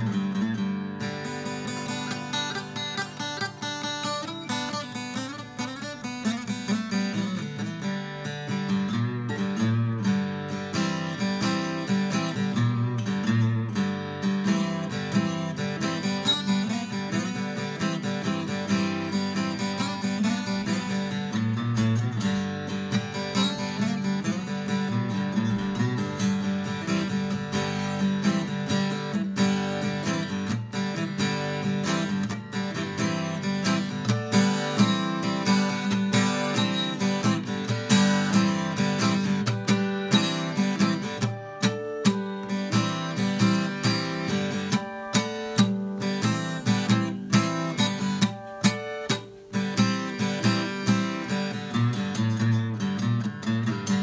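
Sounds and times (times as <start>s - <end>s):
acoustic guitar picked and strummed: 0.0s - 54.0s.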